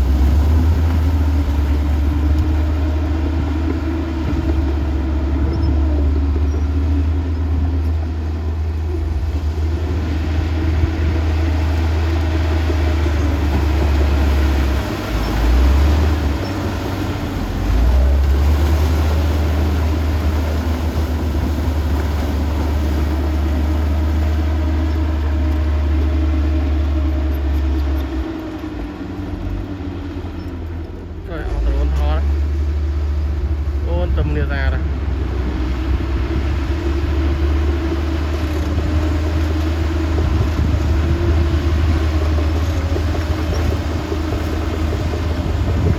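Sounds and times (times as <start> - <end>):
heavy machinery diesel engine rumble: 0.0 - 45.9.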